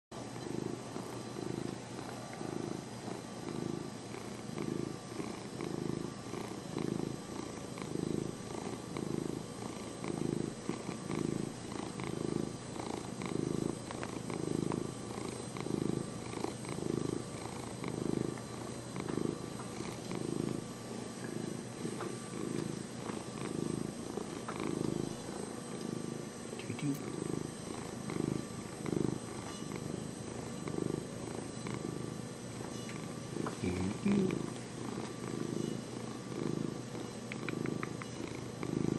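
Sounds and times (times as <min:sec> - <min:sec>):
cat purring: 0:00.2 - 0:38.9.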